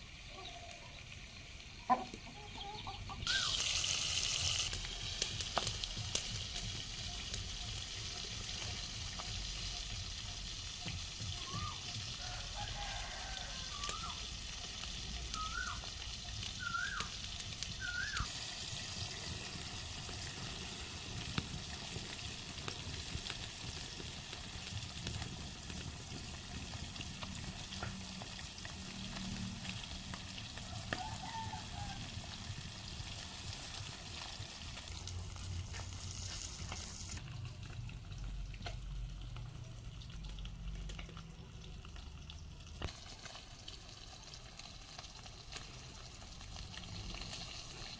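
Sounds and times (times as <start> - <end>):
food sizzling in hot oil: 3.0 - 47.9.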